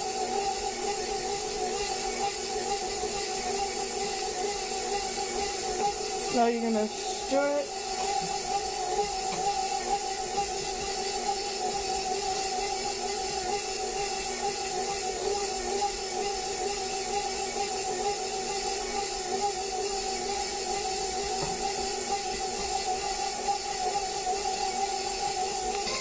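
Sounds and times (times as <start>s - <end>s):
stand mixer motor hum: 0.0s - 26.0s.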